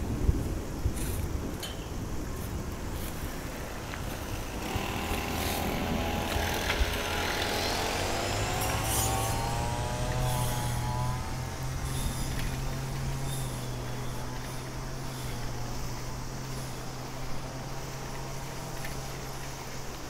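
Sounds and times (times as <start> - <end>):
steady low hum: 0.0 - 20.0
vehicle driving past: 3.7 - 20.0.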